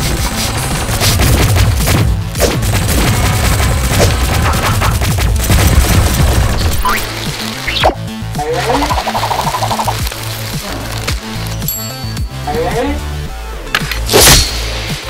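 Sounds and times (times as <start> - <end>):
action music with heavy bass: 0.0 - 15.0.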